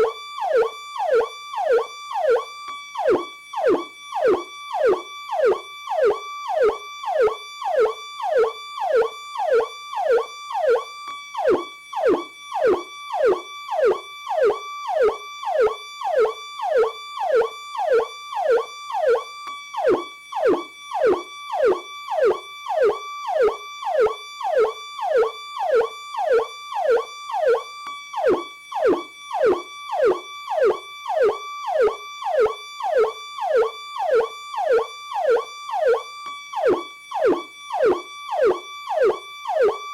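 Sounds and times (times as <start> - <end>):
electronic police siren: 0.0 - 39.9.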